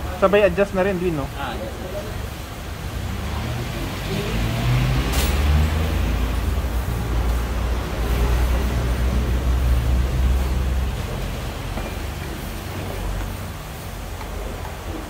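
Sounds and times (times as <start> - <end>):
sharp hiss: 0.0 - 15.0
vehicle engine rumbling: 0.0 - 15.0.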